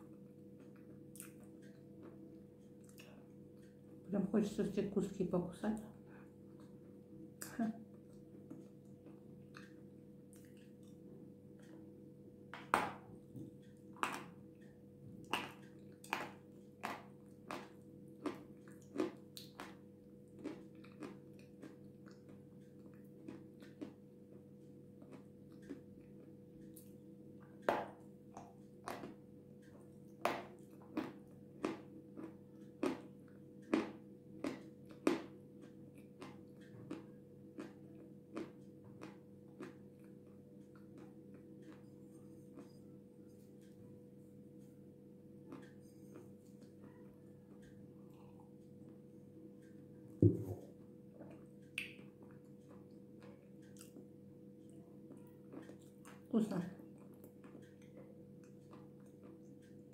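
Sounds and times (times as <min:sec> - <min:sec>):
soft chewing: 0:00.0 - 0:04.1, 0:05.8 - 0:12.2, 0:13.1 - 0:59.9.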